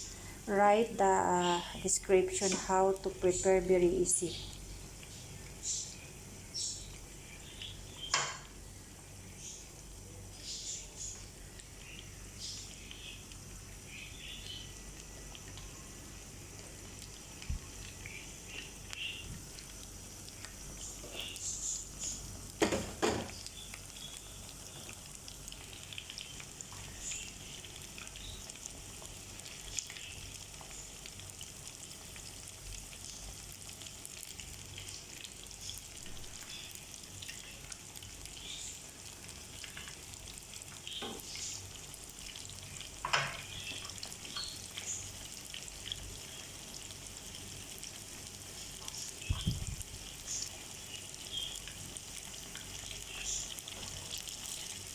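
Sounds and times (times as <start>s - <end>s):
food sizzling in oil: 0.0s - 54.9s.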